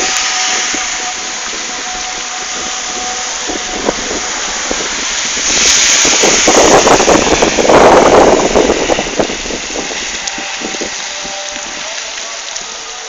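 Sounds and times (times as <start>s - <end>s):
car tyres spraying water: 0.0s - 13.0s
heavy rain on wet street: 0.0s - 13.0s.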